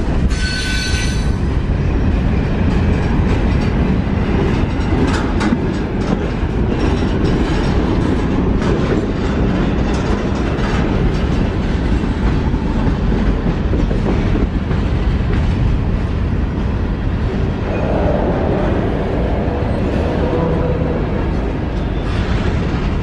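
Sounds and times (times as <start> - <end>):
steel wheels rumbling on rails: 0.0 - 23.0
wheels clacking over rail joints: 0.1 - 23.0.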